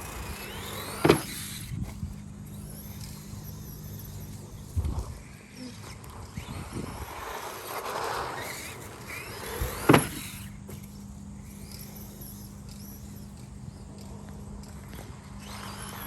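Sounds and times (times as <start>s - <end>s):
electric motor whine: 0.0s - 16.0s.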